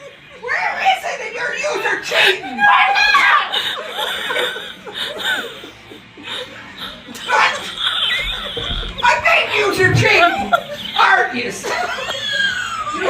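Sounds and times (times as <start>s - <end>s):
people talking: 0.4s - 5.6s, 6.3s - 13.0s
people laughing: 1.4s - 13.0s.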